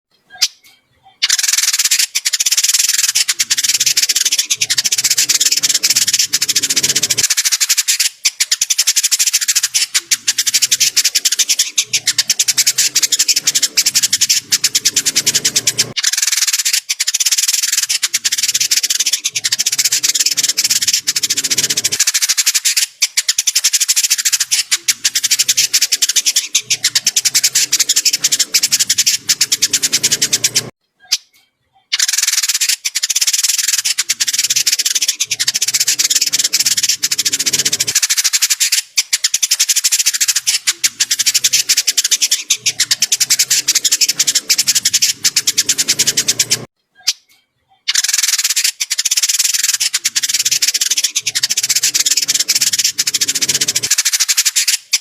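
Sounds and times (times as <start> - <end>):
bird twittering chatter: 0.1 - 55.0.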